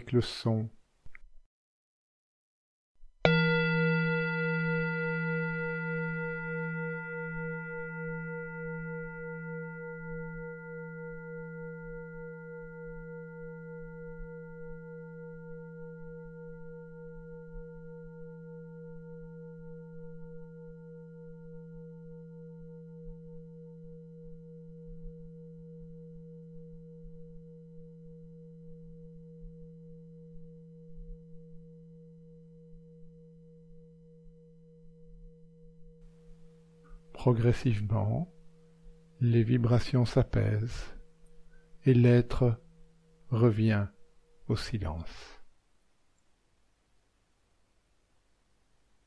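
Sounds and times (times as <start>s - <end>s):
singing bowl ringing: 3.3s - 45.4s.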